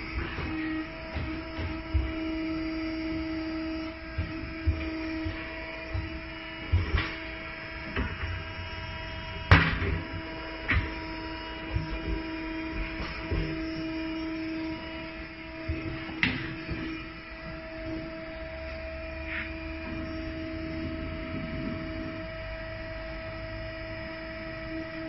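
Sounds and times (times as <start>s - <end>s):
tire changer electric hum: 0.0s - 25.0s.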